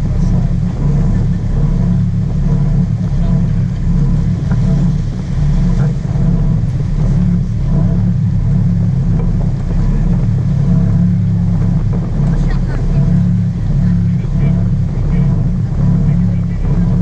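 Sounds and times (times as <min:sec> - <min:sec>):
boat engines droning: 0:00.0 - 0:17.0
water and wind noise: 0:00.0 - 0:17.0.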